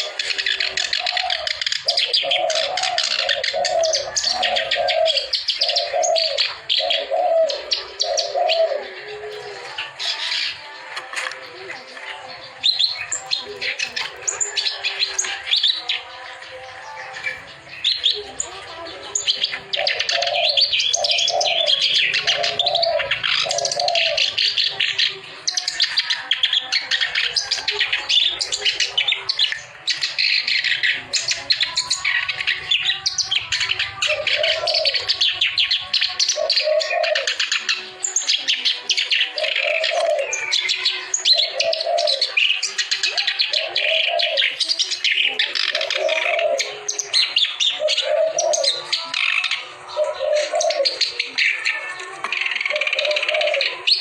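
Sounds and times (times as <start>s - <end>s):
dove cooing: 0.0s - 10.8s, 11.4s - 54.0s
reed warbler chattering song: 0.0s - 51.1s.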